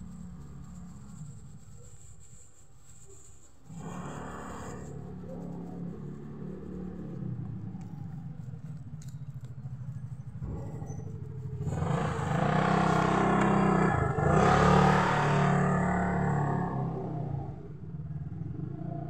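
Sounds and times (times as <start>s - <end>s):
vehicle engine passing: 0.0s - 2.4s, 3.6s - 19.0s.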